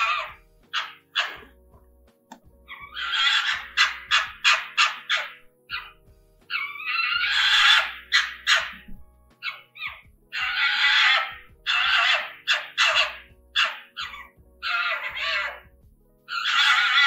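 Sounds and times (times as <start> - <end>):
fox harsh scream: 0.0 - 1.6, 2.7 - 8.8, 9.4 - 15.7, 16.3 - 17.0
fox hoarse call: 0.0 - 1.6, 2.7 - 15.7, 16.3 - 17.0
fox raspy barks: 0.0 - 1.6, 2.7 - 15.7, 16.3 - 17.0
quiet background music: 0.0 - 17.0.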